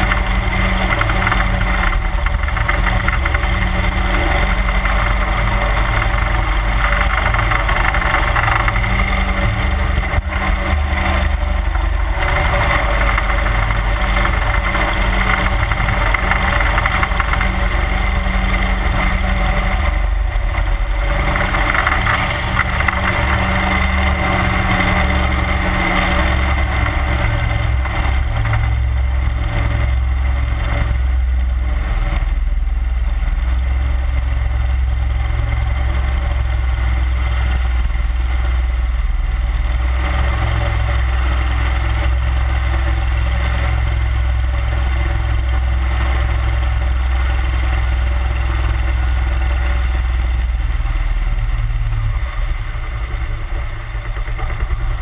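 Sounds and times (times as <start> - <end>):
boat motor running steadily: 0.0 - 55.0.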